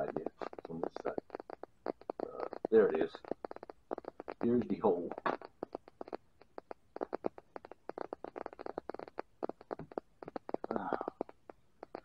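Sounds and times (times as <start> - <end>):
rubber inner tube crackling: 0.0 - 12.0.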